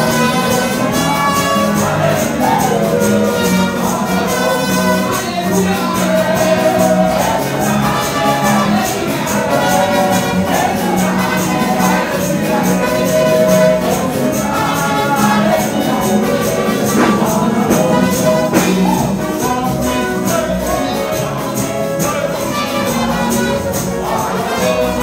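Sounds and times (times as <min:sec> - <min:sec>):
amplified band music: 0:00.0 - 0:25.0
bass line: 0:00.0 - 0:25.0
fast percussion: 0:00.0 - 0:25.0
gospel singing through microphones: 0:00.0 - 0:25.0.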